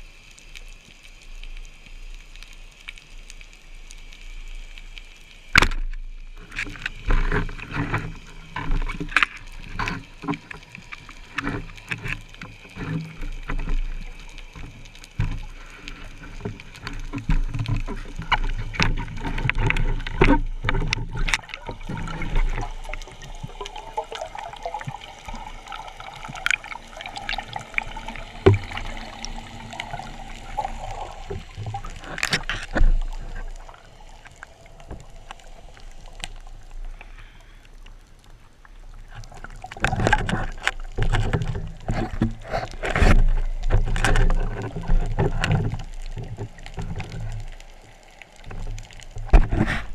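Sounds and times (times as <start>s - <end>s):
water splashing and gurgling: 0.0s - 49.9s.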